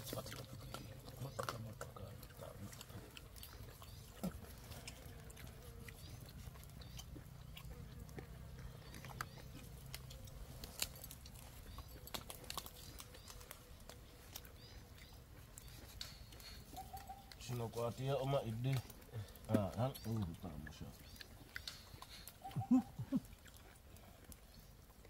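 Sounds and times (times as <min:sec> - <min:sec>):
faint chewing: 0:00.0 - 0:25.0
low steady background hum: 0:00.0 - 0:25.0
small clicks and snaps of eating: 0:00.0 - 0:25.0.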